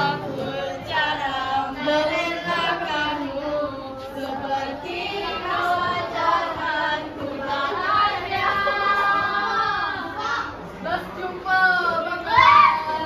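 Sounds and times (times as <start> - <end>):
song with singing voice: 0.0 - 13.0.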